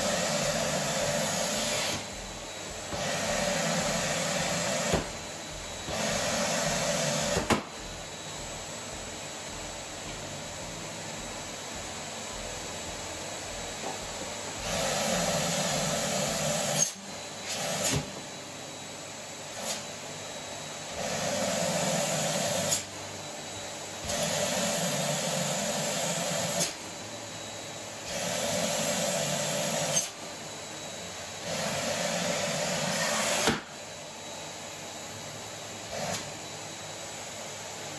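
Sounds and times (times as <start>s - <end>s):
canister vacuum cleaner running: 0.0s - 37.9s.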